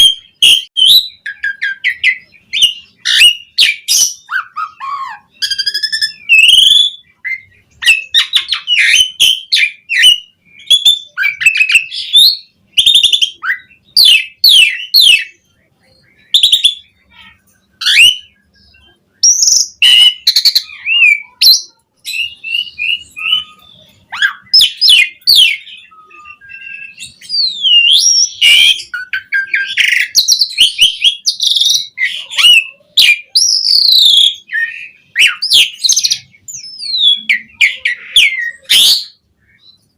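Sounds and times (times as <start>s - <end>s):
starling singing varied song: 0.0s - 39.9s.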